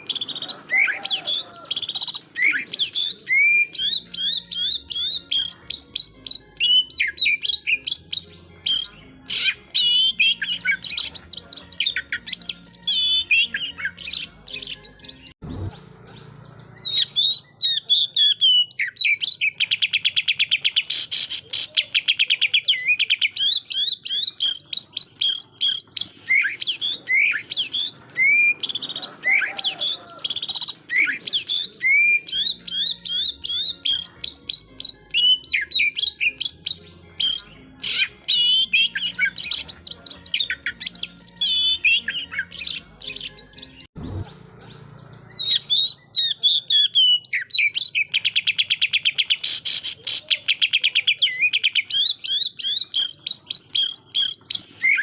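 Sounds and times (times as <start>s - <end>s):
bird singing whistles and chirps: 0.0s - 55.0s.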